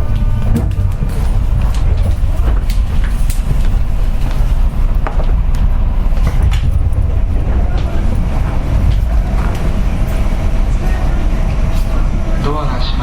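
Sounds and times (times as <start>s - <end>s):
train car low rumble: 0.0s - 13.0s.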